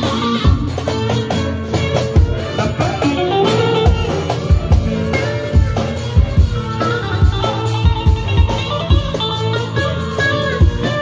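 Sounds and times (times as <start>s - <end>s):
hand drum rhythm: 0.0s - 11.0s
plucked electric saz melody: 0.0s - 11.0s.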